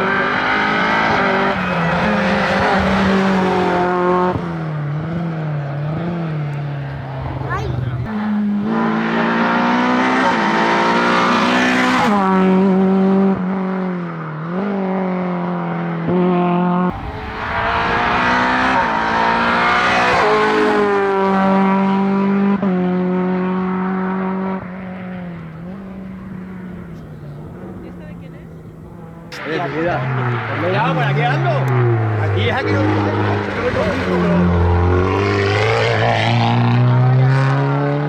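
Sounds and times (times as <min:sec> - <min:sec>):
race car engine revving: 0:00.0 - 0:38.0.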